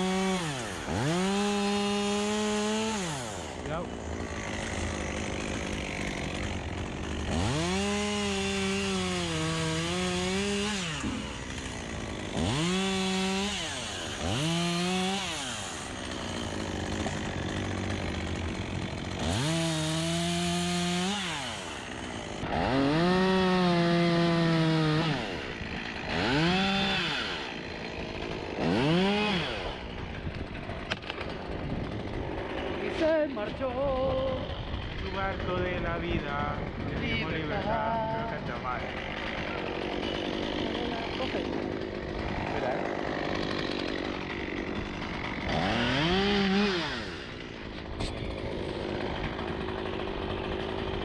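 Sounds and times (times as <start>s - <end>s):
chainsaw cutting wood: 0.0s - 51.0s.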